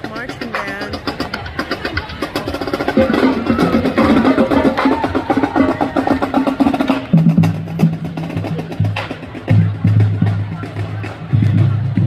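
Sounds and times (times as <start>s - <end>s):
drums beating: 0.0s - 12.0s
marching band brass: 0.1s - 12.0s.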